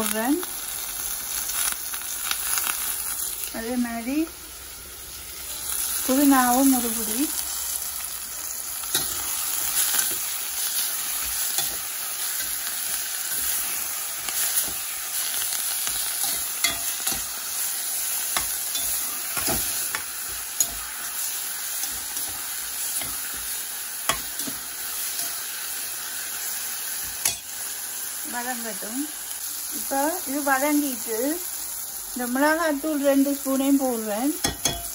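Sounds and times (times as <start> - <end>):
vegetables sizzling in a pot: 0.0 - 34.9.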